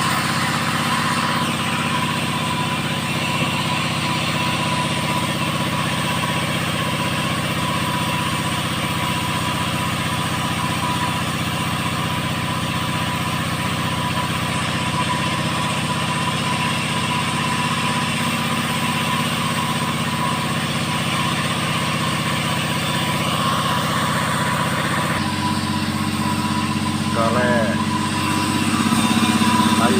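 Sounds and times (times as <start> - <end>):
chainsaw running: 0.0 - 29.9.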